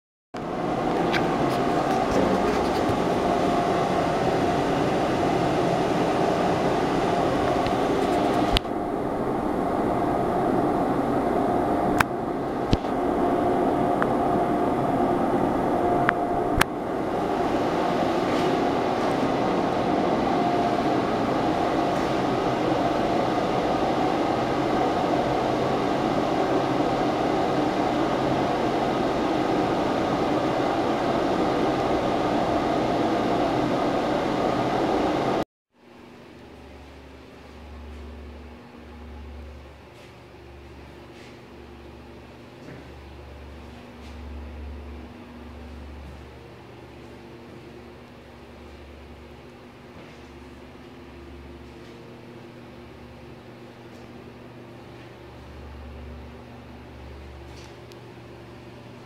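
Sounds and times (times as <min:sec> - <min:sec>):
exhaust fan humming: 0:00.4 - 0:59.0.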